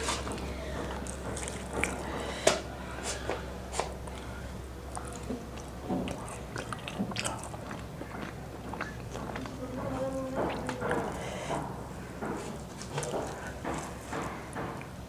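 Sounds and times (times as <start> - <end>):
person chewing crispy chicken: 0.0 - 15.0.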